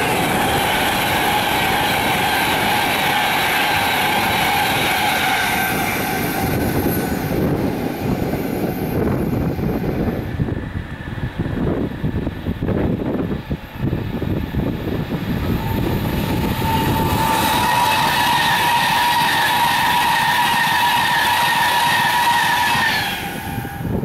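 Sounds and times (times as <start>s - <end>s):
loud steady rush: 0.0s - 24.0s
train wheels on rails: 0.0s - 24.0s
wind on microphone: 0.0s - 24.0s.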